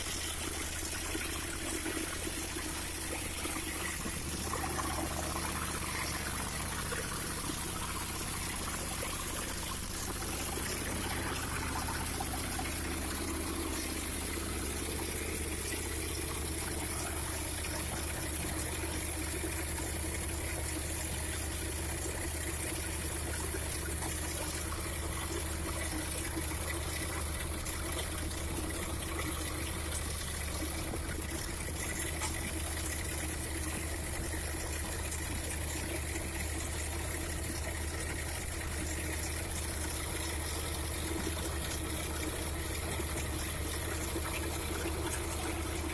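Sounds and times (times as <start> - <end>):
low engine drone: 0.0 - 45.9.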